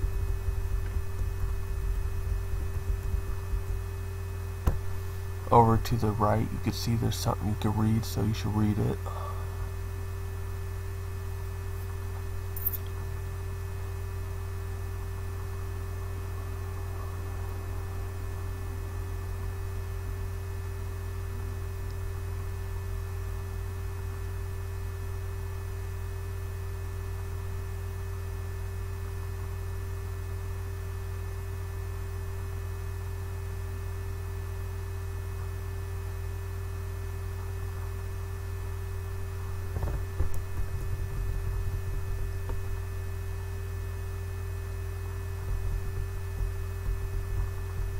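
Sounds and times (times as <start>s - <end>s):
faint constant tone: 0.0s - 47.9s
low electrical hum: 0.0s - 47.9s.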